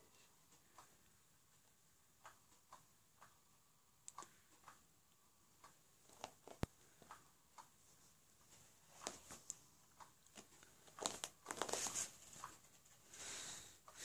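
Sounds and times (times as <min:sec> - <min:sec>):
faint clicks and ticks: 0:00.0 - 0:14.0.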